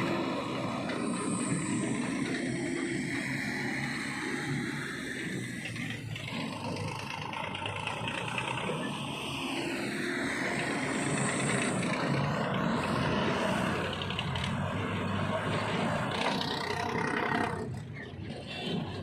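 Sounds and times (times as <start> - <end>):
heavy diesel engines under load: 0.0 - 19.0.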